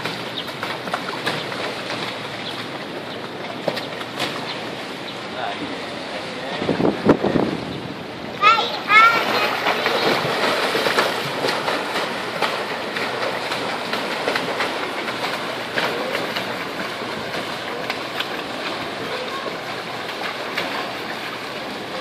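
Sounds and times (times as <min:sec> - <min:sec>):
sharp water slaps: 0:00.0 - 0:05.1, 0:08.4 - 0:22.0
swimmers splashing in pool: 0:00.0 - 0:22.0.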